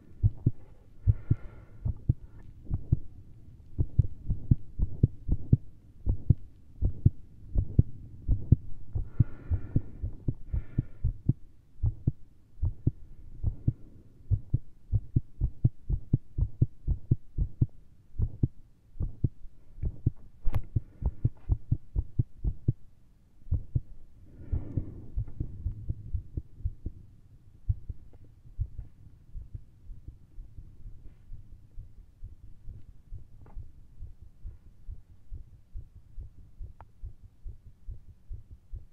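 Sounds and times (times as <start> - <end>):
heartbeat through stethoscope: 0.2 - 3.1, 3.8 - 22.9, 23.5 - 38.9.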